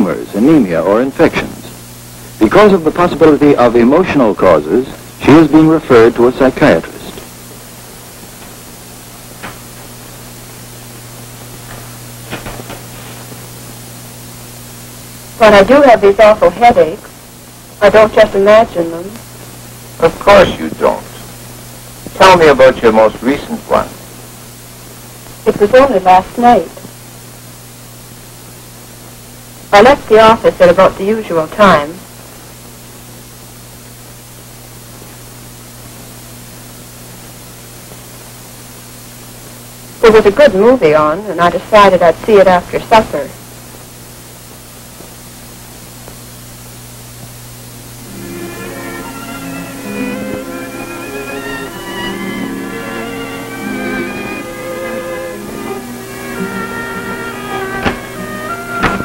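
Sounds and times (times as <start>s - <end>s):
film soundtrack hiss and hum: 0.0s - 59.0s.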